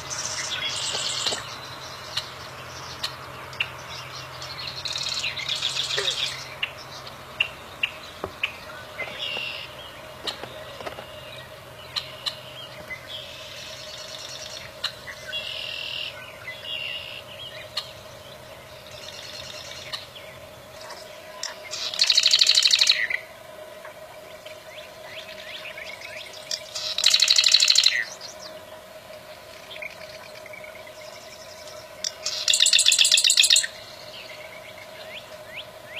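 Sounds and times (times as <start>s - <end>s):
bird buzzy trills: 0.0s - 35.9s
faint steady hum: 0.0s - 35.9s.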